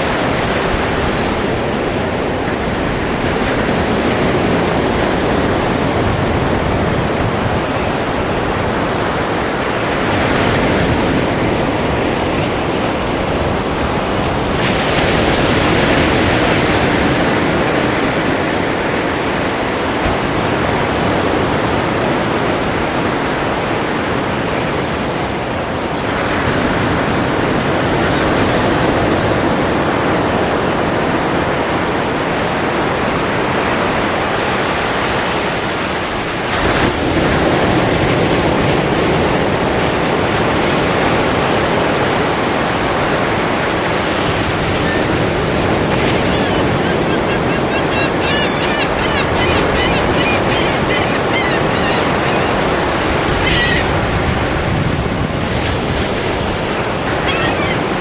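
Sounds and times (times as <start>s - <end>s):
ocean waves washing: 0.0s - 58.0s
waves breaking: 0.0s - 58.0s.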